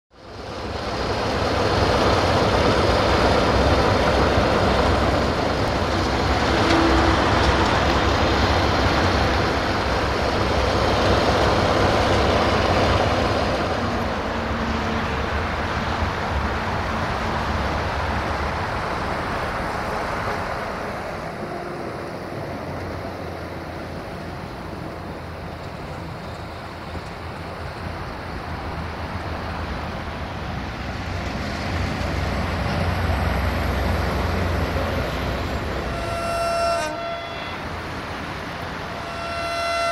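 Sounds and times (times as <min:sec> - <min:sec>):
locomotive diesel engine rumbling: 0:00.1 - 0:39.9
train noise: 0:00.1 - 0:39.9.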